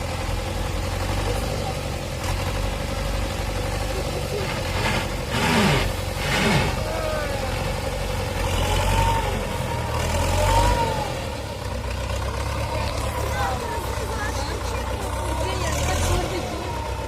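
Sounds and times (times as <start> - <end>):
tractor engine revving: 0.0 - 17.0.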